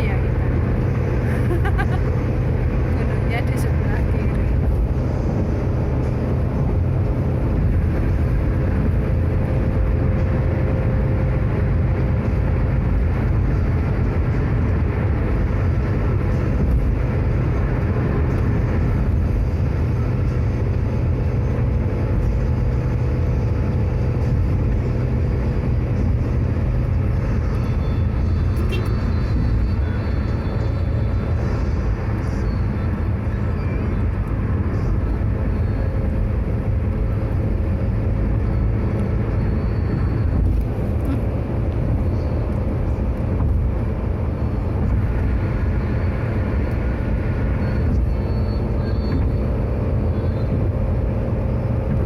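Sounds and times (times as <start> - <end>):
car road noise from inside: 0.0 - 52.0.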